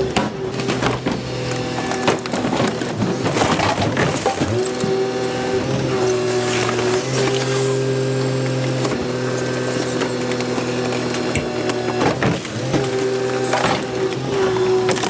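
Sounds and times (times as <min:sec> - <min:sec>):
garbage truck compactor humming: 0:00.0 - 0:15.0
rubbish cracking and snapping: 0:00.1 - 0:15.0.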